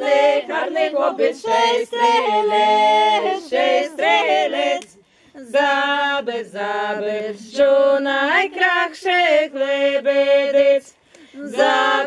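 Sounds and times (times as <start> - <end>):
group singing a cappella: 0.0 - 12.0.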